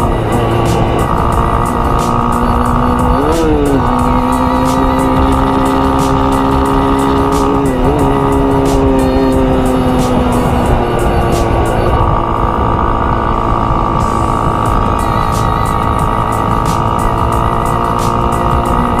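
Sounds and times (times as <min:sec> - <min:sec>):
motorcycle engine running: 0:00.0 - 0:19.0
music with steady beat: 0:00.0 - 0:19.0
wind rushing over microphone: 0:00.0 - 0:19.0.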